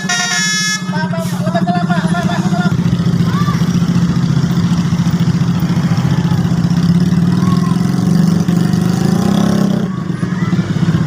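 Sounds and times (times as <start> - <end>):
bus engine running loudly: 0.0 - 11.0.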